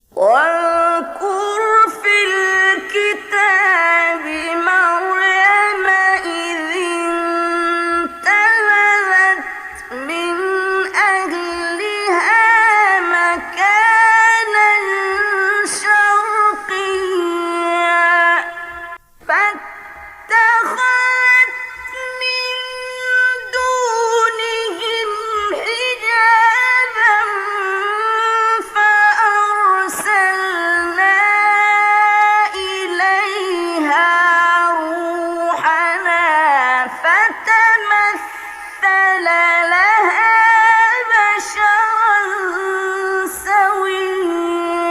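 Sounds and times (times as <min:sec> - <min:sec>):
woman singing: 0:00.1 - 0:44.9.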